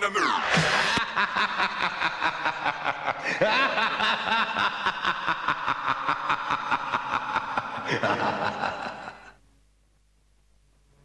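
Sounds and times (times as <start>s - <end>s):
chopped laugh-like vocal sounds: 0.0s - 9.4s.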